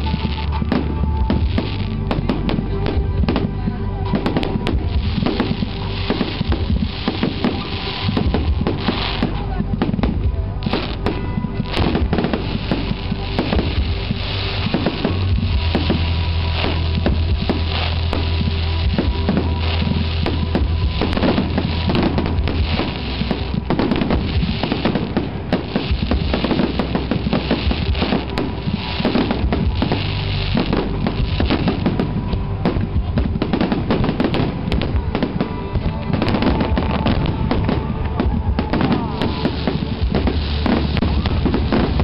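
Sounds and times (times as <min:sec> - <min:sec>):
music: 0:00.0 - 0:42.0
firework shells bursting: 0:04.2 - 0:42.0.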